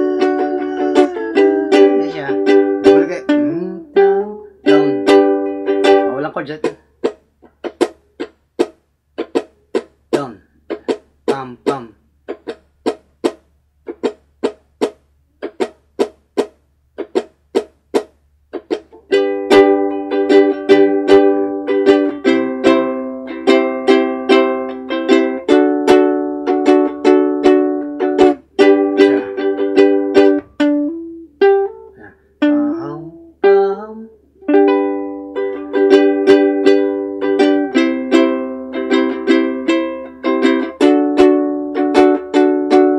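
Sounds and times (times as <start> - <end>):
ukulele strummed chords: 0.0 - 42.9.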